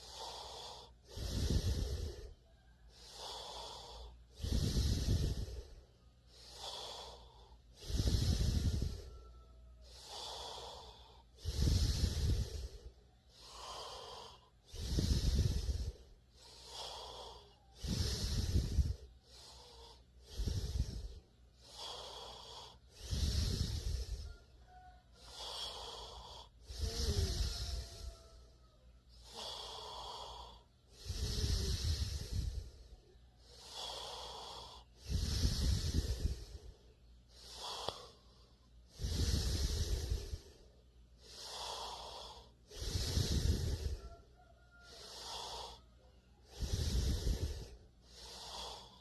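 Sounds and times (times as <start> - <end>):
person snoring: 0.0 - 49.0.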